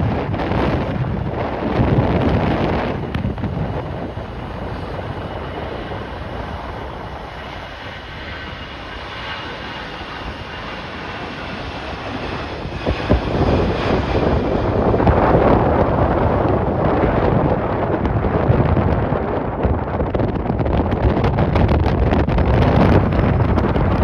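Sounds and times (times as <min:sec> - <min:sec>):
jet engines running: 0:00.0 - 0:24.0
wind on microphone: 0:00.0 - 0:24.0.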